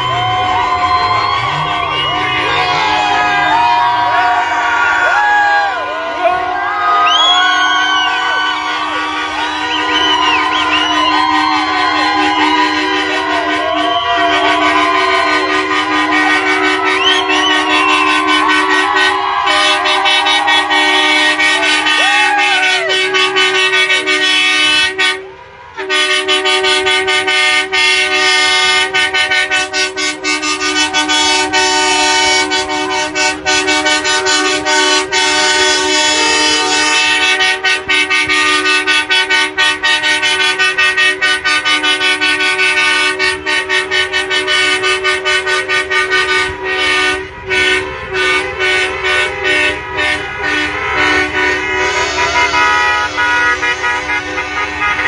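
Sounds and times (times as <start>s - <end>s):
truck and car horns honking: 0.0s - 55.0s.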